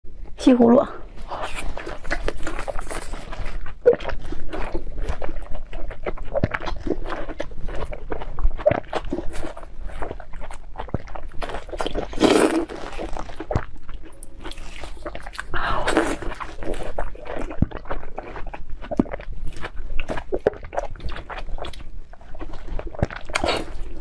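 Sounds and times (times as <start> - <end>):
crunching raw zucchini: 1.2 - 24.0.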